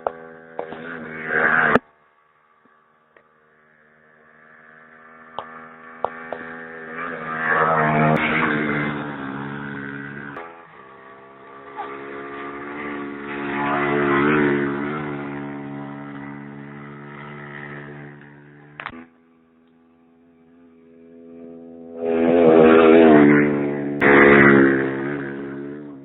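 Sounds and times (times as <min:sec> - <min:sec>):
dirt bike engine running: 0:00.0 - 0:01.8, 0:03.6 - 0:26.0.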